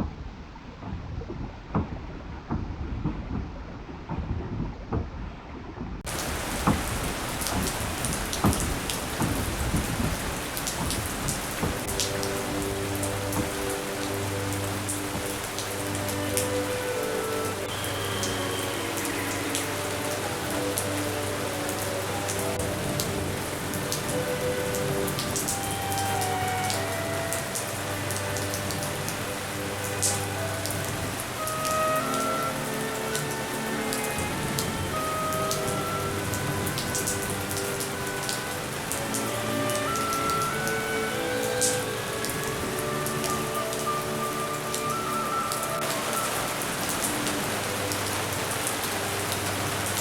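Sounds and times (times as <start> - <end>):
rain on hard surfaces: 5.7 - 50.0.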